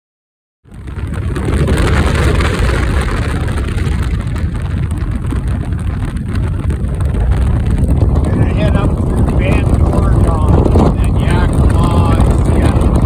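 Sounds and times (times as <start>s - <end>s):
wind rushing over microphone: 0.6s - 13.0s
motorcycle engine rumble: 0.7s - 13.0s.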